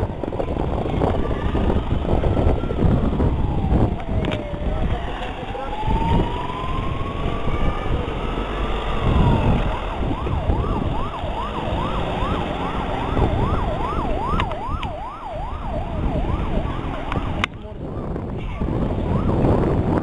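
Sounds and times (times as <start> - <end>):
engine and traffic rumble: 0.0 - 20.0
electronic siren wailing and yelping: 1.2 - 17.4, 19.1 - 19.4.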